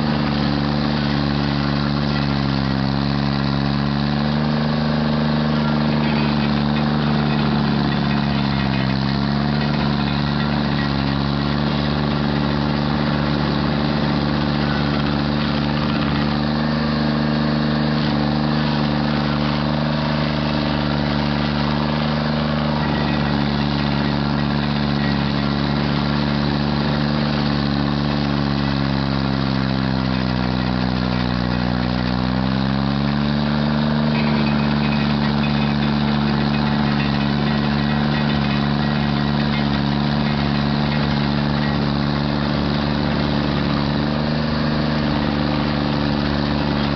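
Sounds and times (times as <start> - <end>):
stump grinder engine running: 0.0 - 46.9.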